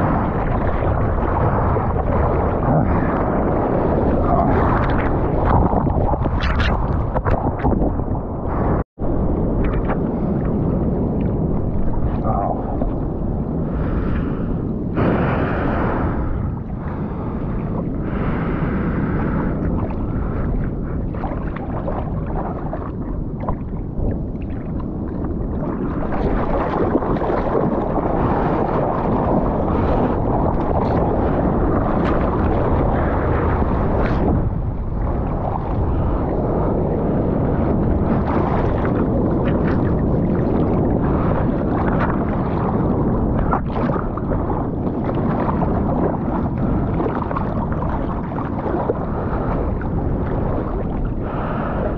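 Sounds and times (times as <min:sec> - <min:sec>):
water rushing and sloshing: 0:00.0 - 0:51.9.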